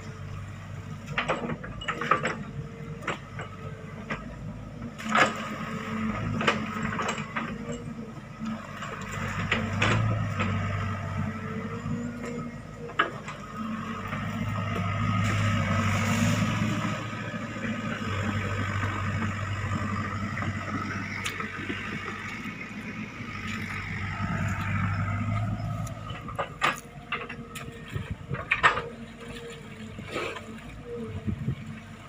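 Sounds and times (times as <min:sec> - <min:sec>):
excavator diesel engine: 0:00.0 - 0:32.0.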